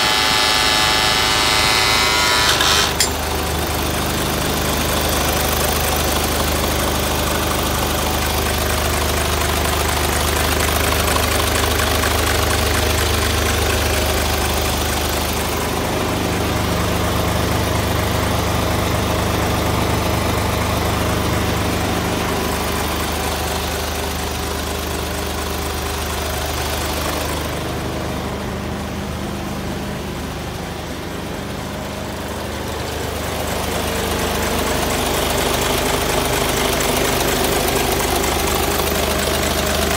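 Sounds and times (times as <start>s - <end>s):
truck diesel engine idling: 3.1s - 39.9s.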